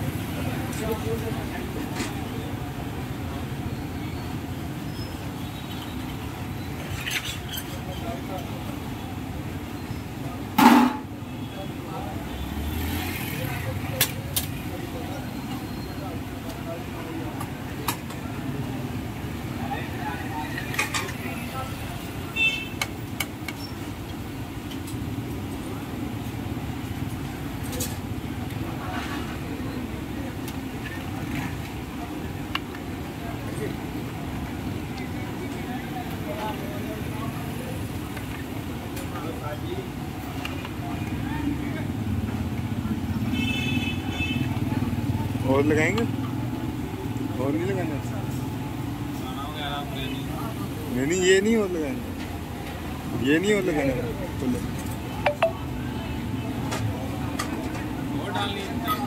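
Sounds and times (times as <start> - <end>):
street background rumble: 0.0 - 59.0.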